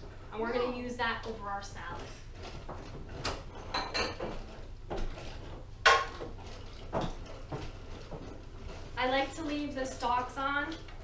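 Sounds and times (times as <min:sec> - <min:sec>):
utensils and dishes clinking: 0:02.0 - 0:11.0.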